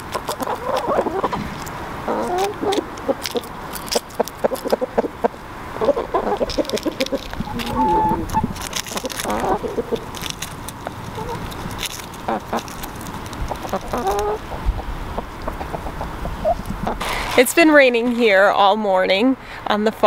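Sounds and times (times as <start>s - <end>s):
chickens clucking: 0.0s - 17.4s.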